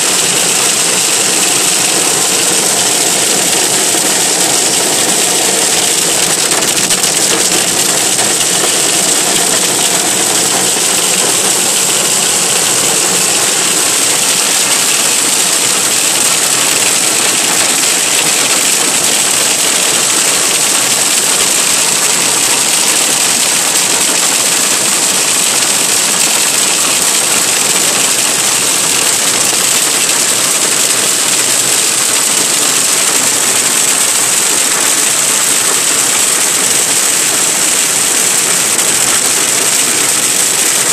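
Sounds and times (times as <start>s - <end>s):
hail pelting car roof: 0.0s - 40.9s.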